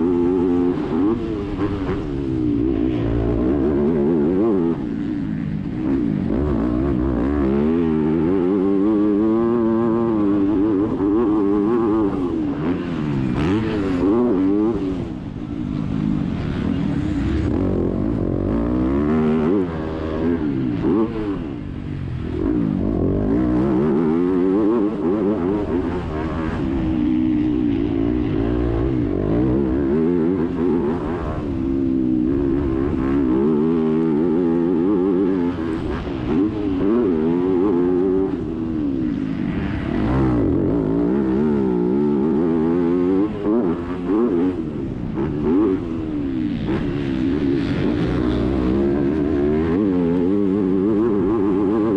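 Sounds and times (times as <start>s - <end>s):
motocross engine revving: 0.0s - 51.9s
wind and dirt rush: 0.0s - 51.9s.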